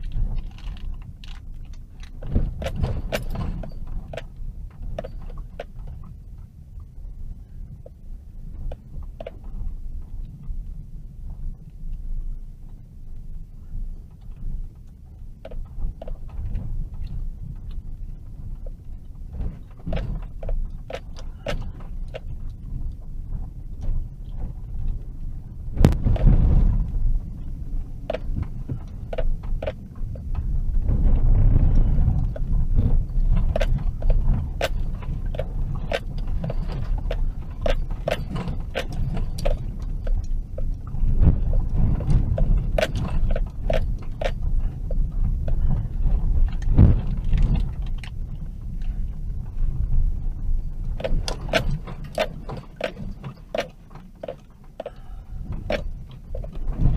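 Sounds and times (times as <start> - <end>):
vehicle heavy bump: 0.0 - 6.8, 14.1 - 56.9
sharp clicks and rattles: 0.0 - 7.0, 14.1 - 56.9
tyres rumbling on dirt road: 0.0 - 56.9.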